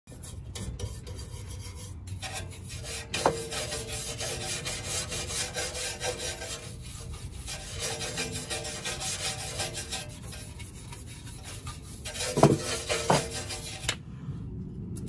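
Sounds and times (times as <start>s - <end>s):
brush scrubbing rusty metal: 0.1s - 14.0s.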